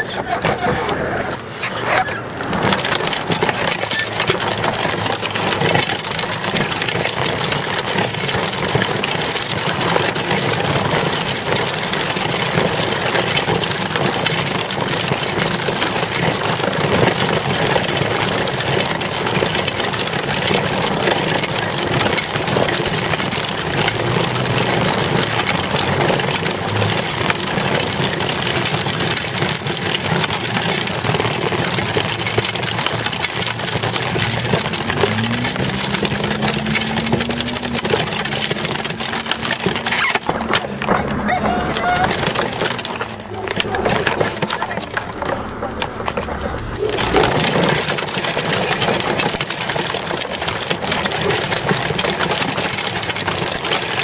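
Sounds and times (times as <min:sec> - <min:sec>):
bicycle rolling over rough pavement: 0:00.0 - 0:54.0.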